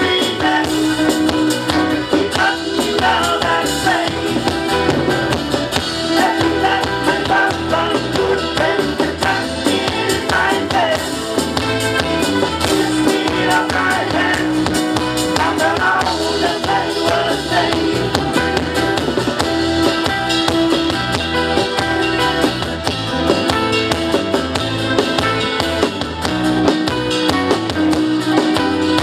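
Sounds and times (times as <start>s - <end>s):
instrumental band music: 0.0s - 29.0s
steady drum beat: 0.0s - 29.0s.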